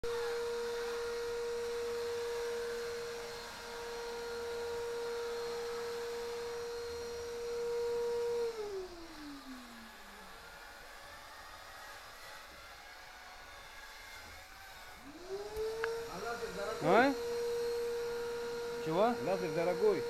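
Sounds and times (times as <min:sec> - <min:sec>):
electric motor whine: 0:00.0 - 0:20.0.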